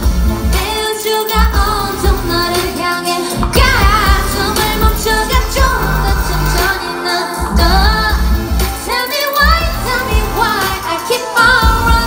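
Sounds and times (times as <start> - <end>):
amplified backing music with bass: 0.0 - 12.0
woman singing into a microphone: 0.5 - 12.0.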